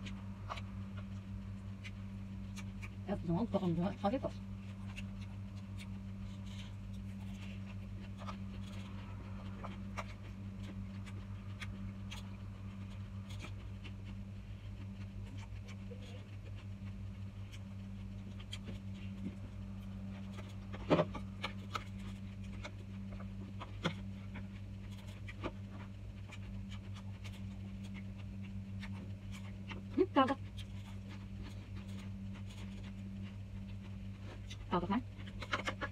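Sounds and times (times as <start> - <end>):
chewing noises: 0.0 - 35.9
steady low hum: 0.0 - 35.9.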